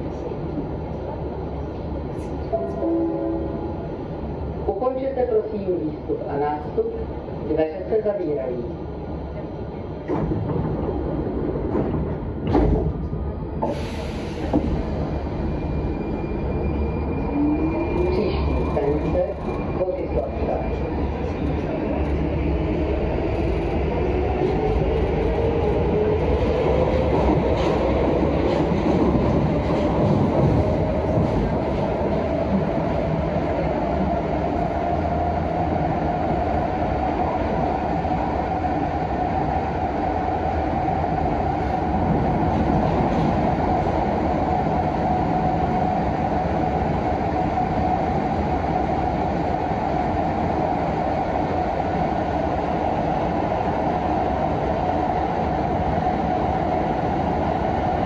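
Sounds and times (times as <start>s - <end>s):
wheel and rail rumble: 0.0s - 58.0s.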